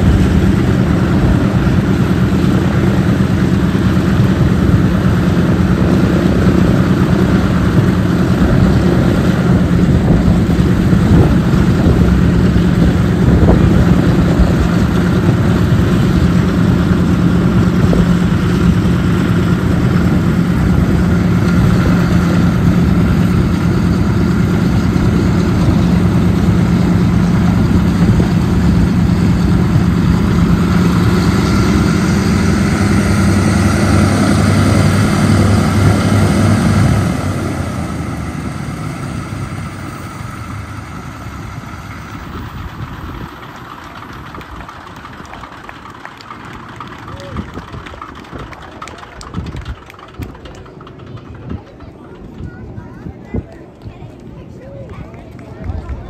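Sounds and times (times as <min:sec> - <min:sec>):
propeller aircraft engines droning: 0:00.0 - 0:56.0.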